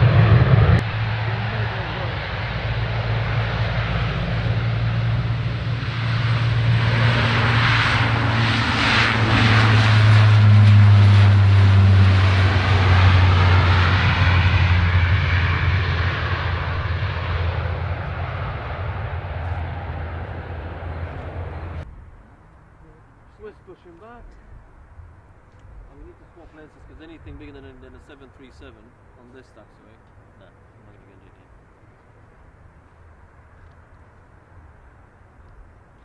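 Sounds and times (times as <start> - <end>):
aircraft engines passing: 0.0 - 36.0.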